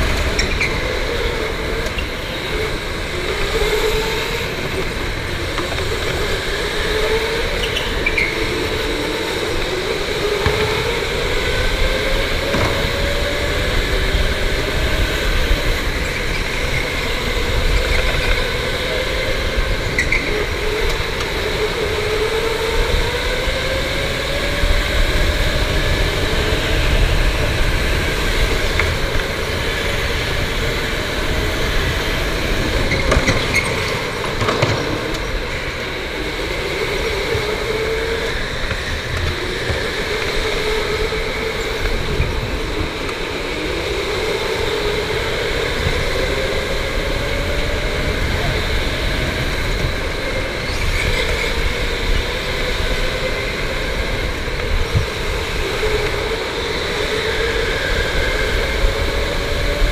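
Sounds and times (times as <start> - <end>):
electric go-kart motor whining: 0.0 - 59.9
wind and track rumble: 0.0 - 59.9.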